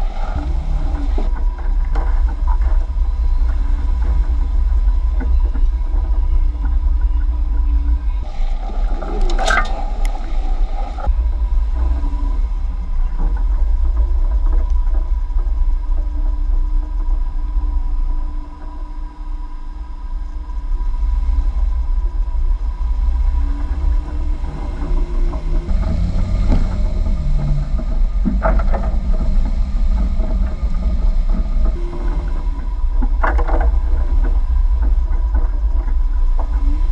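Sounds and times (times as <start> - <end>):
vehicle rumbling over dirt: 0.0 - 36.9.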